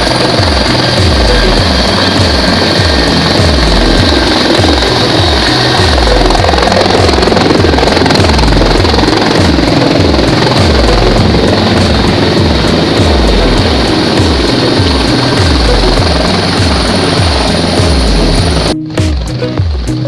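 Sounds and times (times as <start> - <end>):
helicopter rotor pulsing: 0.0 - 20.0.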